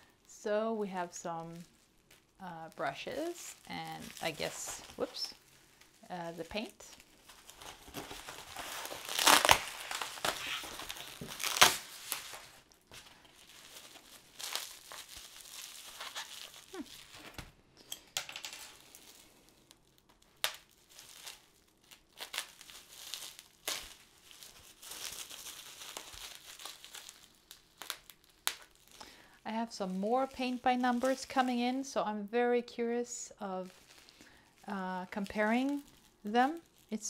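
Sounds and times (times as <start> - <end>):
bubble wrap crinkling: 0.0 - 37.0.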